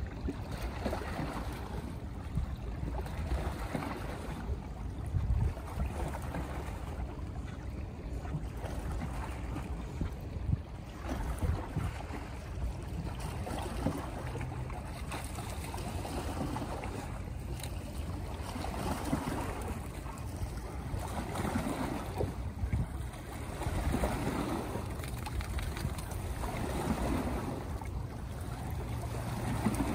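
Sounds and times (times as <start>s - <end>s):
small waves lapping on rocks: 0.0s - 29.9s
wind rumbling on microphone: 0.0s - 29.9s.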